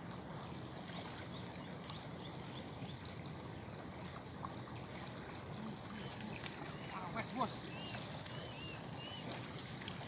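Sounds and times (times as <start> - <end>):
insects trilling: 0.0 - 9.8.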